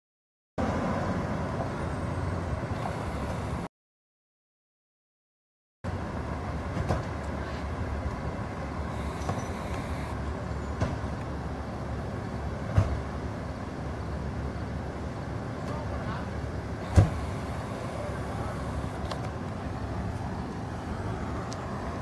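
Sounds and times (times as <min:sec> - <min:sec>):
engines idling: 0:00.6 - 0:03.7, 0:05.9 - 0:22.0.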